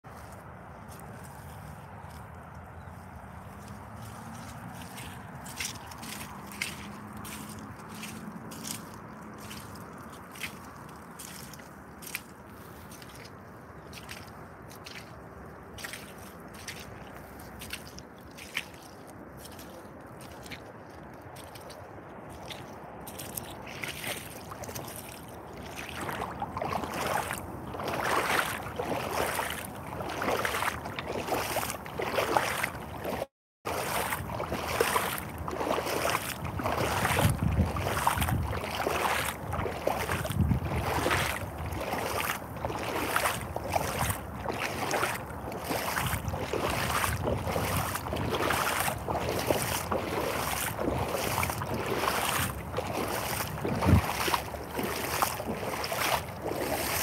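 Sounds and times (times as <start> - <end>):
boots splashing through muddy water: 0.0 - 57.0.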